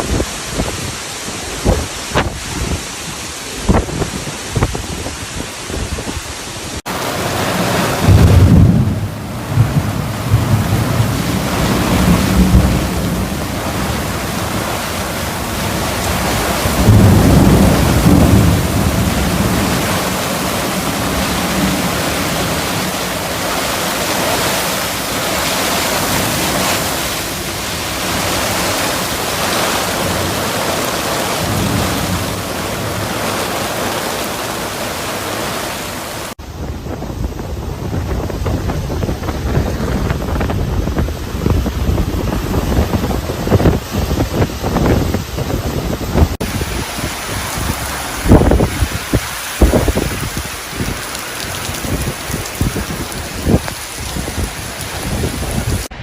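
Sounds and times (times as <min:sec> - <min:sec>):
heavy rain hissing: 0:00.0 - 0:56.0
low rumbling wind surges: 0:00.0 - 0:56.0.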